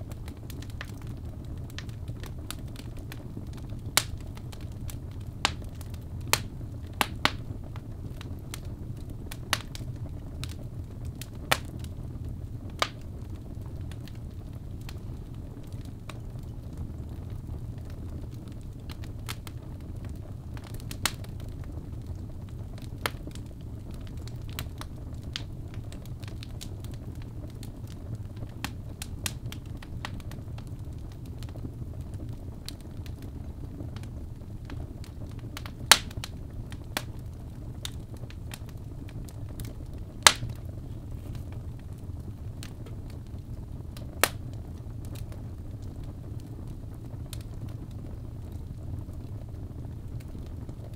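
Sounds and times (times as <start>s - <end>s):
fire crackling and popping: 0.0s - 50.9s
fire rumbling: 0.0s - 50.9s.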